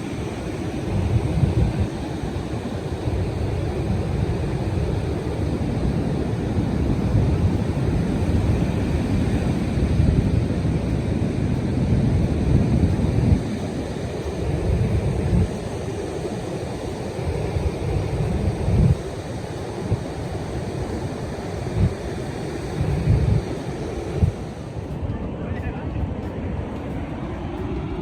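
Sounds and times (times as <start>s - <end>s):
ocean surf: 0.0s - 28.0s
wind buffeting microphone: 0.0s - 28.0s.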